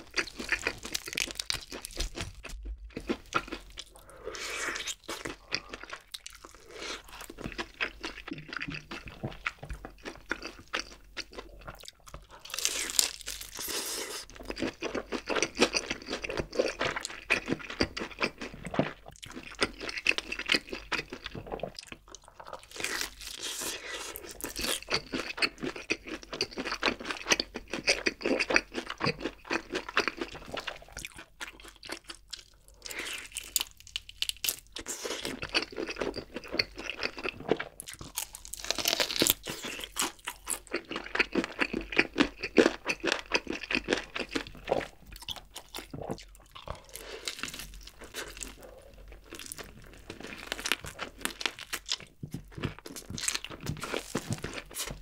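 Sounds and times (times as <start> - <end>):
crunching and chewing fried chicken: 0.0 - 55.0.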